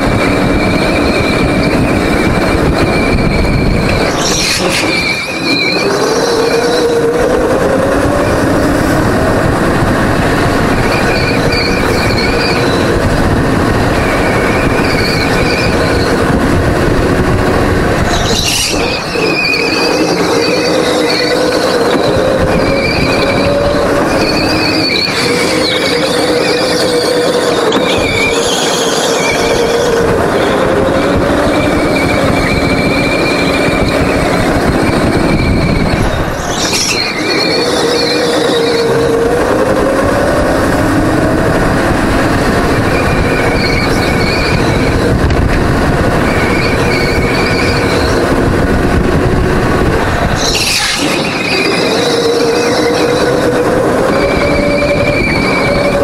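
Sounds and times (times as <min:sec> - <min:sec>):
tyre squeal: 0:00.0 - 0:08.8, 0:10.7 - 0:13.1, 0:13.9 - 0:16.3, 0:18.0 - 0:40.8, 0:42.4 - 0:45.3, 0:46.2 - 0:48.4, 0:50.3 - 0:56.0
go-kart engine running hard: 0:00.0 - 0:56.0.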